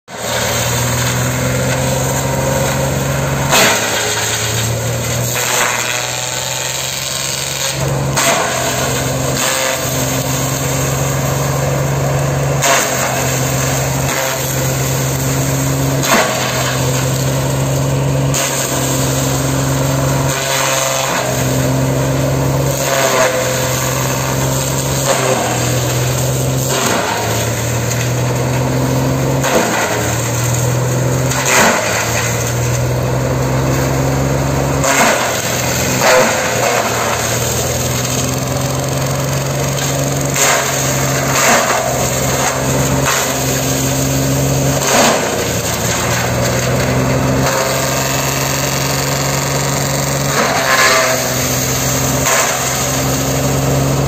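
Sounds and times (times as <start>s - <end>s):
tractor diesel engine hum: 0.0s - 54.0s
fronds cracking in shredder: 0.1s - 54.0s.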